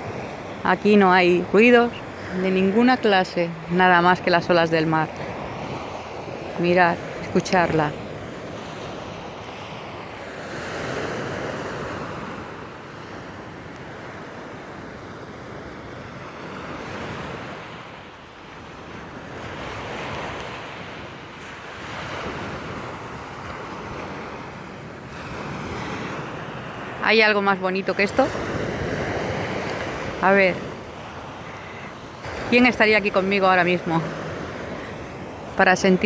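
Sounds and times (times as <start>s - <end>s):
waves breaking on shore: 0.0s - 36.0s.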